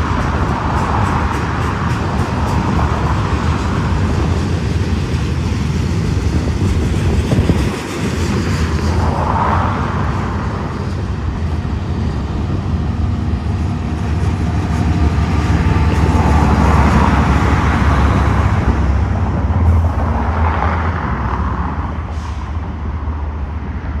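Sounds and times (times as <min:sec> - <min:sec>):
freight train rolling on rails: 0:00.0 - 0:24.0.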